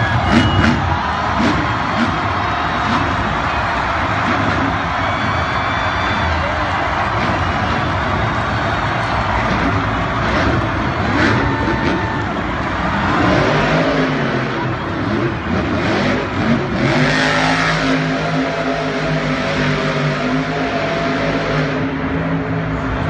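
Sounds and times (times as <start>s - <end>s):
monster truck engine running: 0.0s - 23.0s.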